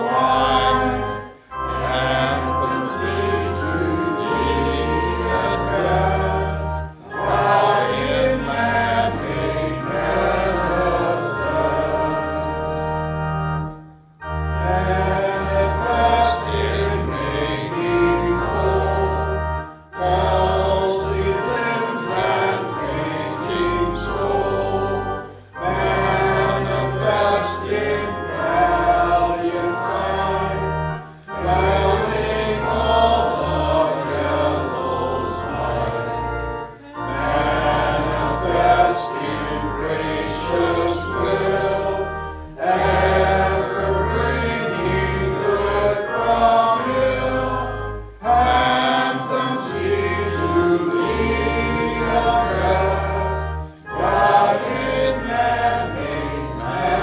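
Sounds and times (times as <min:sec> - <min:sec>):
congregation singing a hymn: 0:00.0 - 0:57.0
organ accompaniment: 0:00.0 - 0:57.0.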